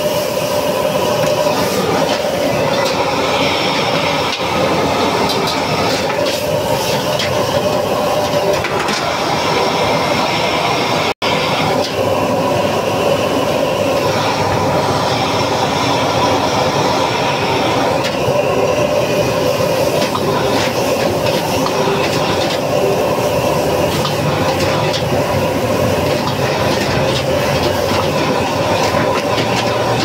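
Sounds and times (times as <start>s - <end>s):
gas burner roaring: 0.0s - 30.0s.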